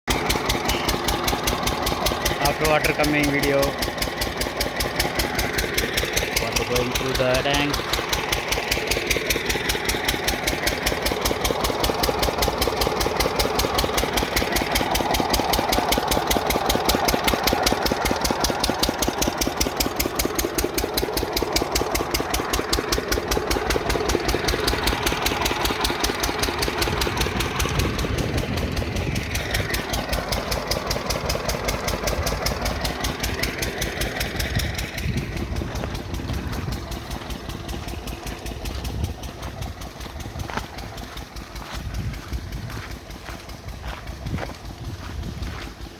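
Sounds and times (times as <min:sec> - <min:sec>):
diesel engine chugging: 0:00.0 - 0:45.9.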